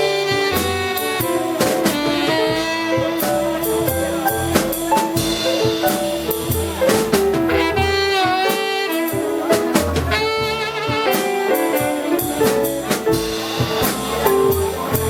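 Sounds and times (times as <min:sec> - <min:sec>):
drum kit with cymbal strokes: 0:00.0 - 0:15.0
horns playing with vibrato: 0:00.0 - 0:15.0.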